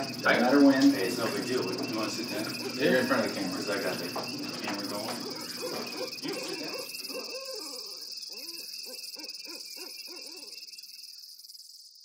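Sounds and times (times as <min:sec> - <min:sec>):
owl hooting: 0:00.0 - 0:11.5
night insects droning: 0:00.0 - 0:12.0.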